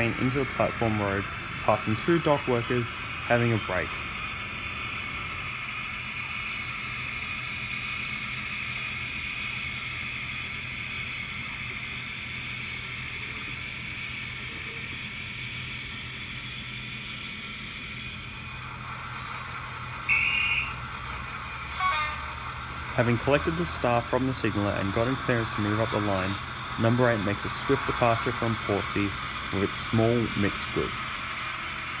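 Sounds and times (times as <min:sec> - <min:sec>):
faint low drone: 0:00.0 - 0:32.0
model locomotive whirring hum: 0:00.0 - 0:32.0.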